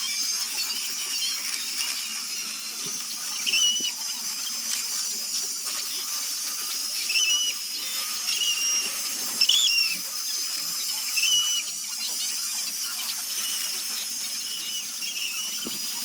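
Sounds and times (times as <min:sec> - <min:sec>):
rotary carving tool cutting wood: 0:00.0 - 0:16.0.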